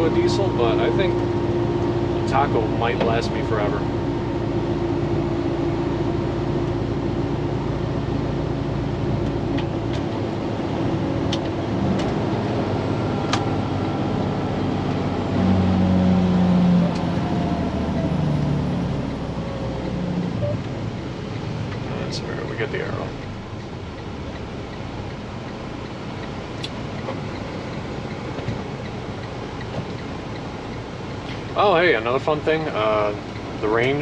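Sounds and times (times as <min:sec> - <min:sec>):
diesel engine droning: 0:00.0 - 0:34.0
road noise: 0:00.0 - 0:34.0.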